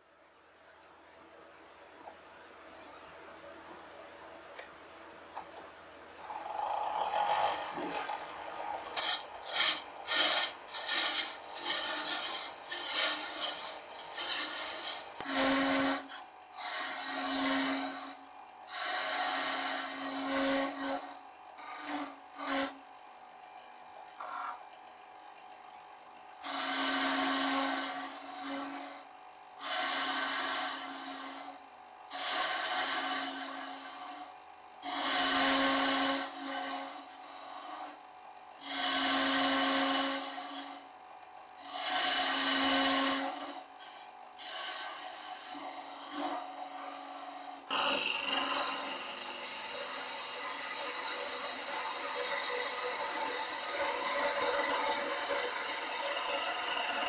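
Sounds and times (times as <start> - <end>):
lathe tool scraping wood: 6.2 - 24.8, 26.4 - 57.0
lathe motor humming: 6.2 - 25.8, 26.4 - 57.0.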